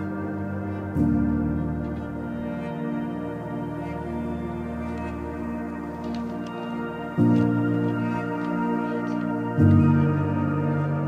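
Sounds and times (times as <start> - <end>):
ambient synth chords: 0.0 - 11.0.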